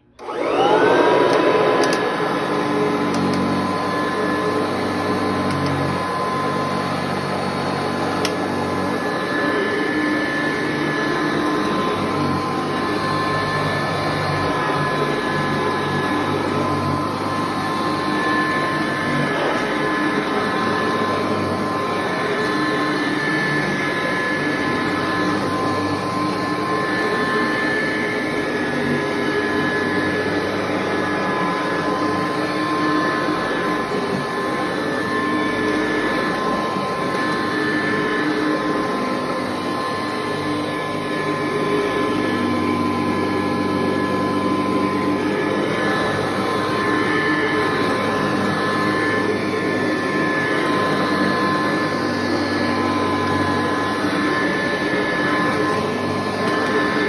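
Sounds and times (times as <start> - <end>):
vacuum cleaner running on rug: 0.0 - 57.0.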